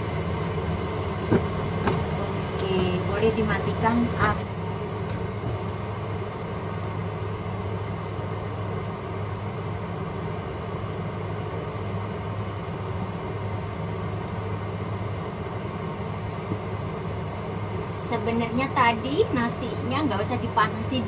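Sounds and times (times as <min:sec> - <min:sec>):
kitchen fan humming: 0:00.0 - 0:21.0.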